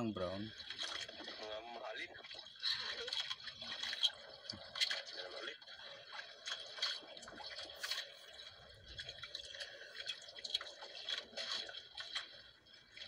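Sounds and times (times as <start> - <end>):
water dripping: 0.0 - 13.0
water lapping against boat hull: 0.0 - 13.0.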